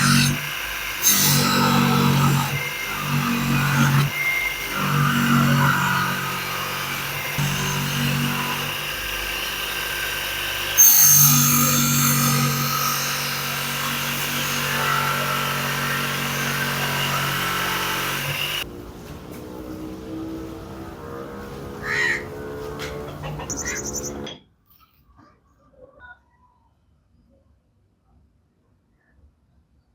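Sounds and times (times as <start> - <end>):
electric power tool grinding metal: 0.0 - 24.3.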